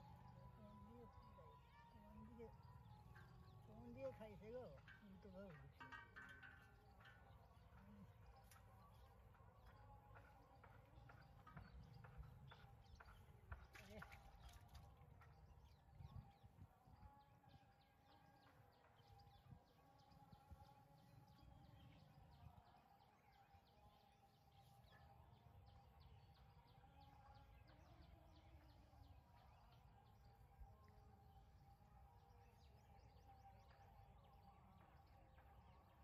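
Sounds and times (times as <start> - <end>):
faint high chirps and ticks: 0.0 - 36.0.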